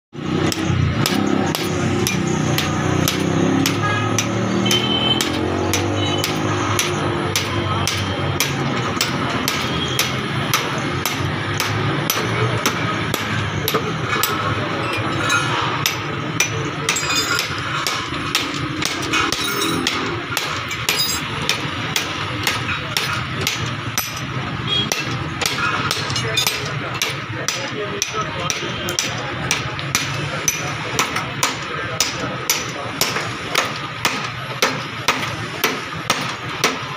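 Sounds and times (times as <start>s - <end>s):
hammer strikes: 0.2s - 36.9s
steady background noise: 0.2s - 36.9s.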